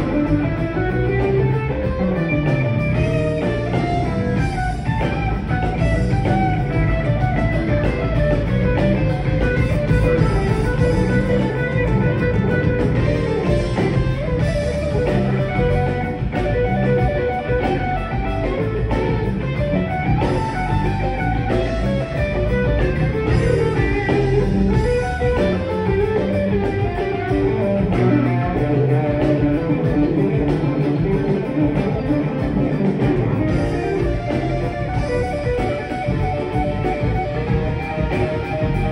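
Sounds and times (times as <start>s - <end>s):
live rock band playing: 0.0s - 38.9s
melodic guitar lead line: 0.0s - 38.9s.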